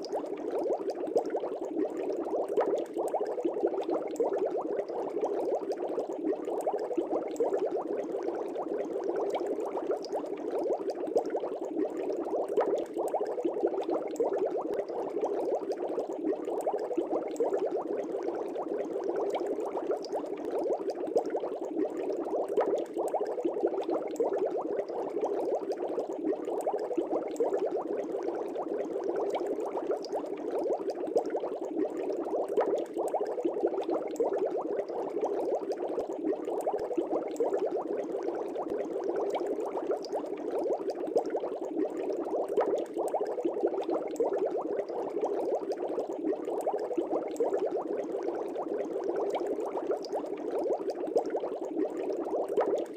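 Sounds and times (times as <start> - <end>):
aquarium air bubbles: 0.0 - 52.9.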